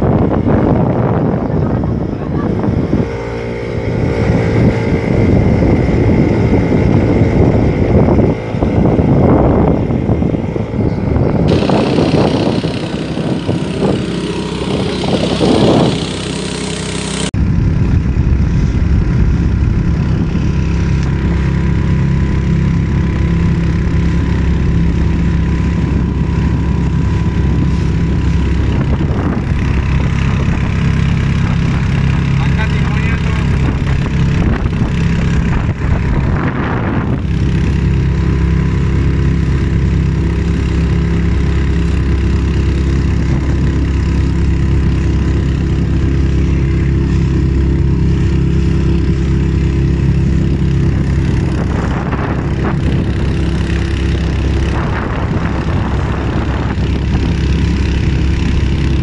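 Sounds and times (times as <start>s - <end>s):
outboard motor droning: 0.0s - 59.0s
wind on microphone: 0.0s - 59.0s.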